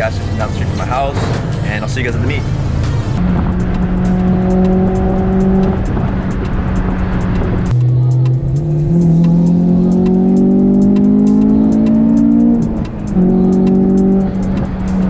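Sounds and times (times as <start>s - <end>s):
background music with steady beat: 0.0s - 15.0s
car engine accelerating: 0.0s - 15.0s.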